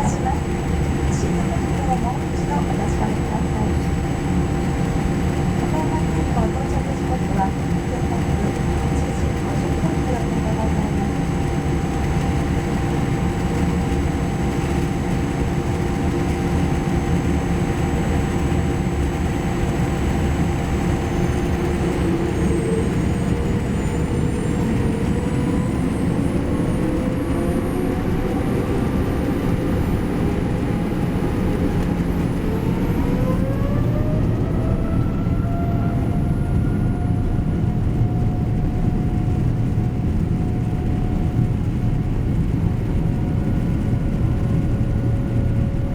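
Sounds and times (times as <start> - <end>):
jet engines spooling up: 0.0 - 41.2.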